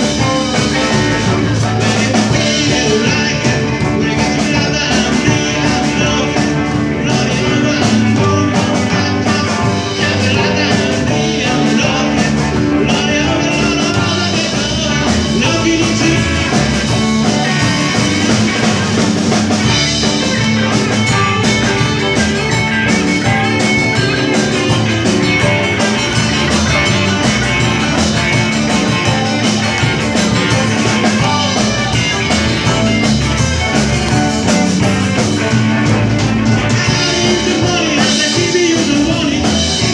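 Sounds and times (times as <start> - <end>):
drum kit: 0.0 - 39.9
electric guitars: 0.0 - 39.9
keyboard: 0.0 - 39.9.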